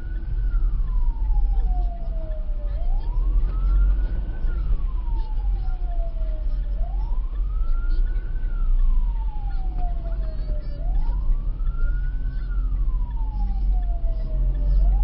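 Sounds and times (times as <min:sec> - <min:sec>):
siren wailing: 0:00.0 - 0:15.0
steady low rumble: 0:00.0 - 0:15.0.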